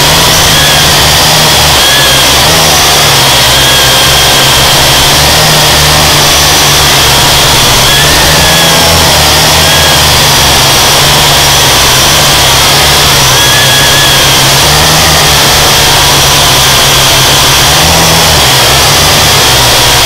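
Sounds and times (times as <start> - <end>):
drone propellers whirring: 0.0 - 20.0.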